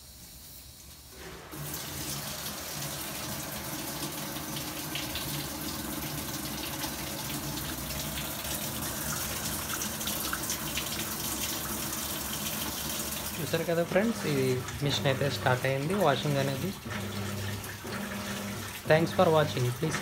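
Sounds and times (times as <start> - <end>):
running water filling washer tub: 0.0 - 20.0.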